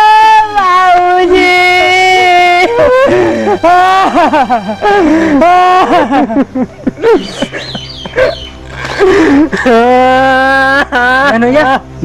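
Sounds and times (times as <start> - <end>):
men laughing: 1.3 - 11.9.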